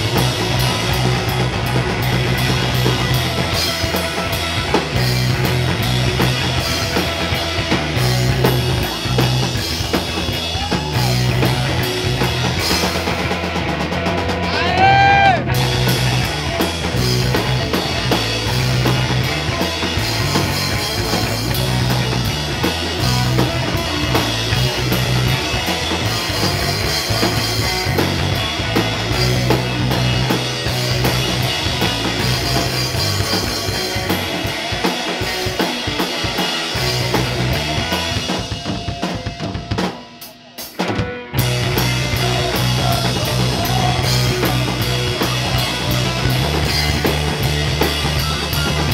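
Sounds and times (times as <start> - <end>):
drum kit: 0.0 - 48.9
instrumental rock band: 0.0 - 48.9.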